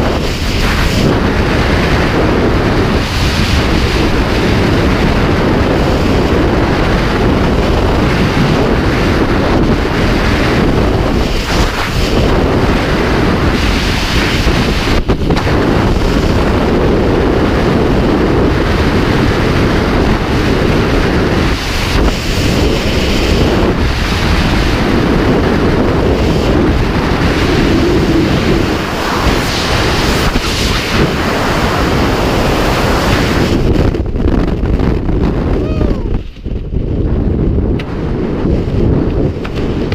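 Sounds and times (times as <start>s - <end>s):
wind blasting across microphone: 0.0s - 39.9s.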